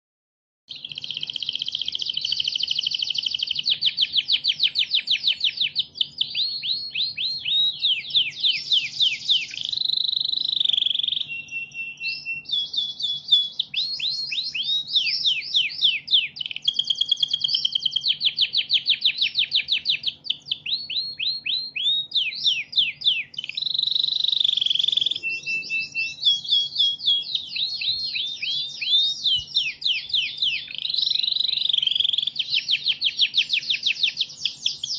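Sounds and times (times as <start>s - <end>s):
canary singing trills: 0.7s - 34.9s.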